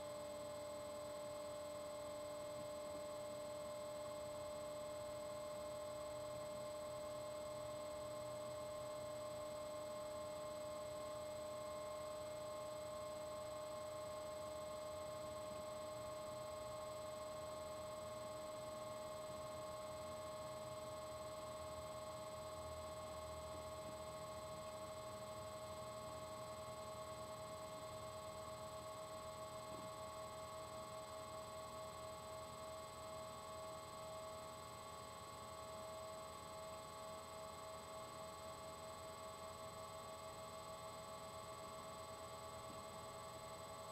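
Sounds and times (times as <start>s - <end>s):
electrical hum with whining tones: 0.0s - 43.9s.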